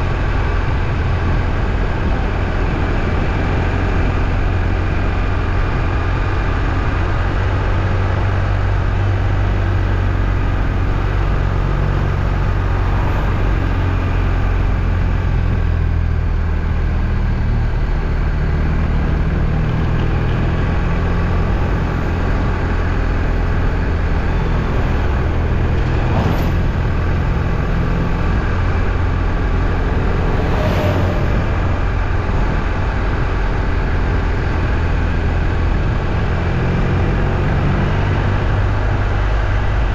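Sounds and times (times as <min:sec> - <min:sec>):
motor vehicle droning: 0:00.0 - 0:39.9.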